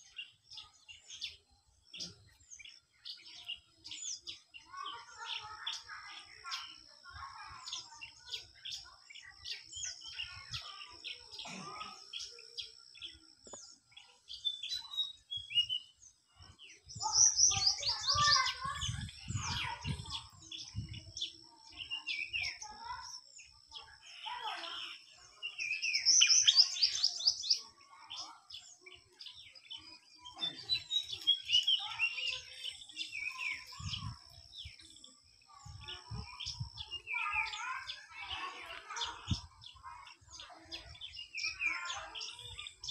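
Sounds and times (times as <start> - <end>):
small songbirds chirping: 0.0 - 42.9.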